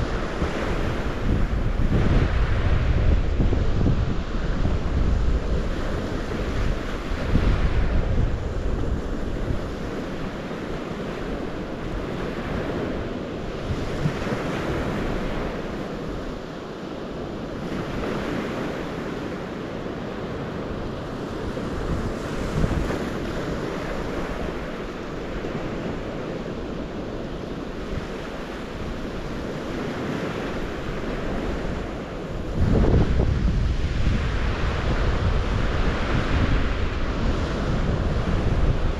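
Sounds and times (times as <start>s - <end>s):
wind gusting on microphone: 0.0s - 38.9s.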